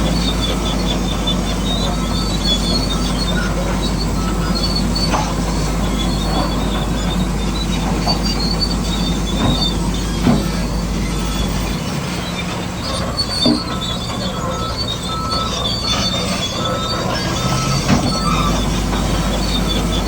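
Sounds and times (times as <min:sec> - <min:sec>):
bulldozer motor: 0:00.0 - 0:20.0
tracks squealing: 0:00.0 - 0:20.0.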